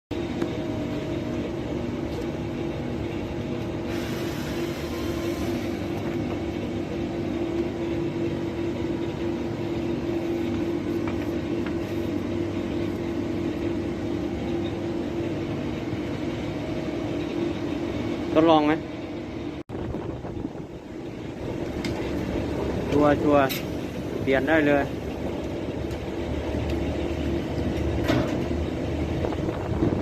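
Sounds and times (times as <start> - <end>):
air conditioning unit humming: 0.1 - 30.0.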